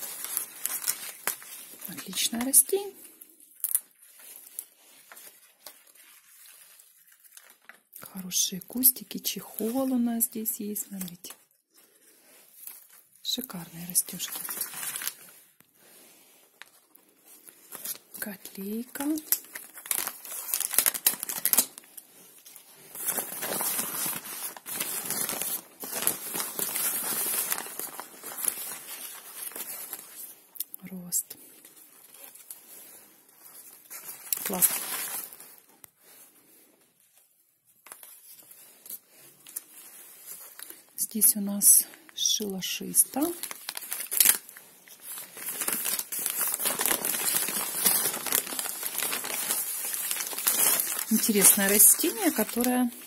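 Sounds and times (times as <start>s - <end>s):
packing paper rustling: 0.0s - 7.9s, 8.8s - 30.6s, 31.3s - 53.0s.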